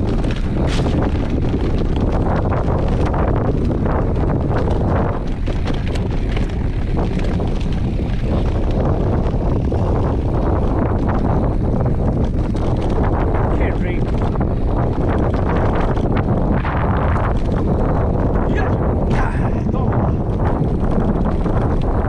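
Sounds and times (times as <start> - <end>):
bike clicking and rattling: 0.0 - 22.0
wind buffeting microphone: 0.0 - 22.0.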